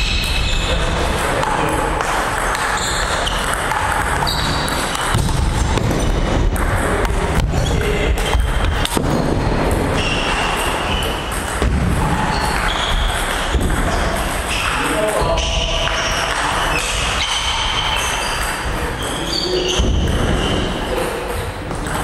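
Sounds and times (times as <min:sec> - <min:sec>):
low hall background noise: 0:00.0 - 0:22.0.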